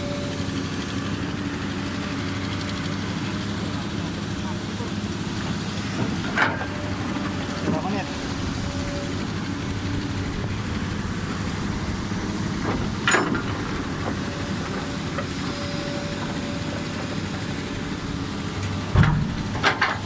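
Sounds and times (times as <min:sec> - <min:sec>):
excavator diesel engine running: 0:00.0 - 0:20.0
machine working noises: 0:00.0 - 0:20.0.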